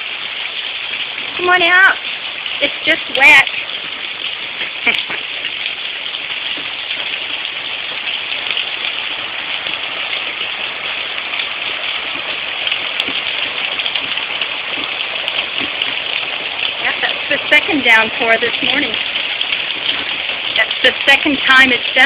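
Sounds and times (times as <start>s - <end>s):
heavy rain and hail: 0.0s - 22.0s.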